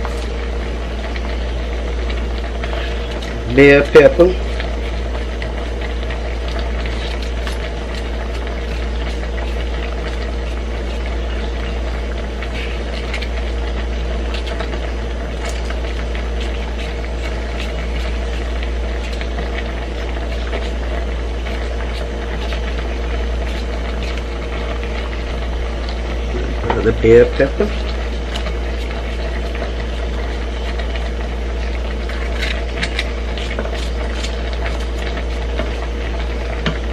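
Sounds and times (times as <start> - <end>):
stockpot boiling with bubbling: 0.0 - 36.9.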